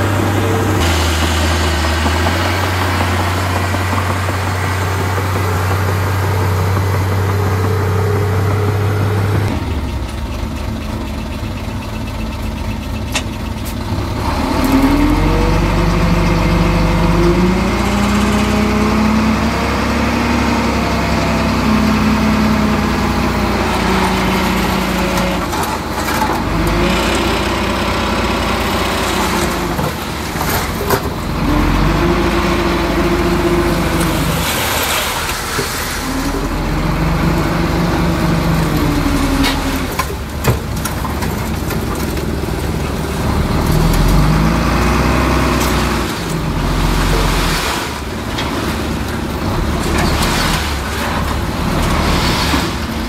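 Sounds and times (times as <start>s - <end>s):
diesel engine surging: 0.0s - 53.0s.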